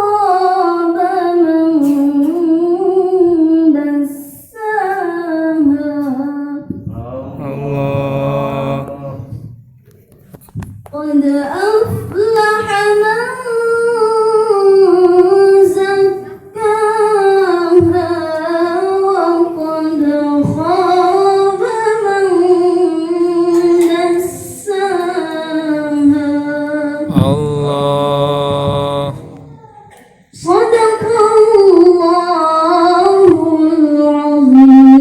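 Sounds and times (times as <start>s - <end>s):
woman reciting melodically: 0.0s - 35.0s.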